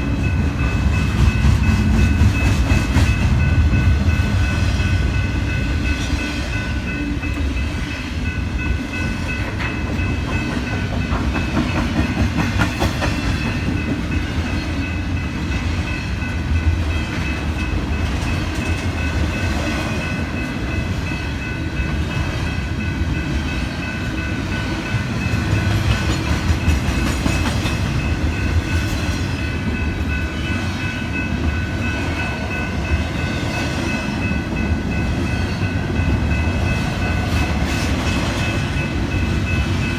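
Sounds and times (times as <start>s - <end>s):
train cars rolling past: 0.0s - 39.9s.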